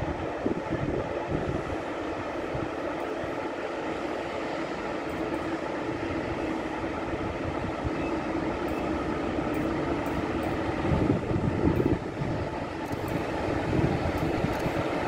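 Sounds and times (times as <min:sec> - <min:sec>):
electric locomotive hum and rumble: 0:00.0 - 0:15.0.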